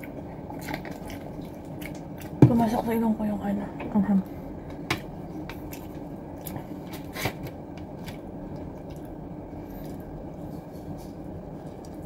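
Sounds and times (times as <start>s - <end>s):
person chewing food: 0.0s - 2.4s, 4.6s - 12.0s
low room hum: 0.0s - 12.0s.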